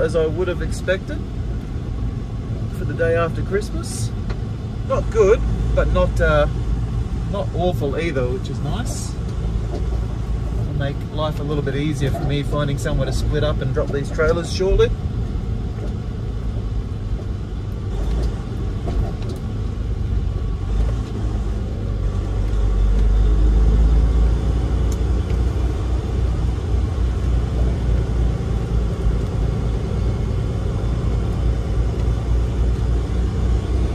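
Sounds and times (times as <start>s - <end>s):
truck diesel engine rumbling: 0.0s - 33.9s.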